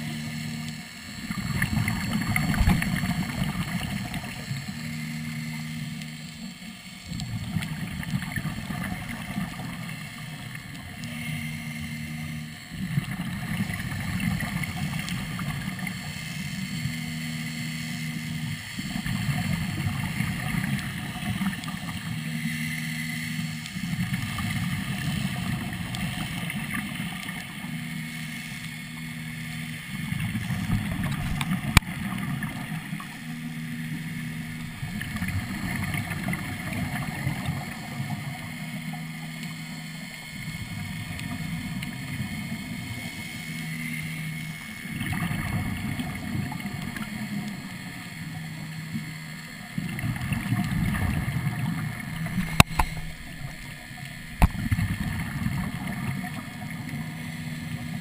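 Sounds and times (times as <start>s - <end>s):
bubbling regulator exhaust: 0.0s - 58.0s
short low hum: 0.0s - 58.0s.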